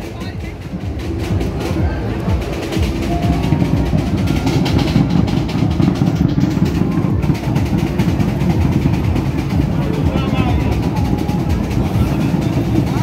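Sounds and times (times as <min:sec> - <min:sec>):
crowd noise: 0:00.0 - 0:13.0
marching drums playing fast: 0:00.0 - 0:13.0.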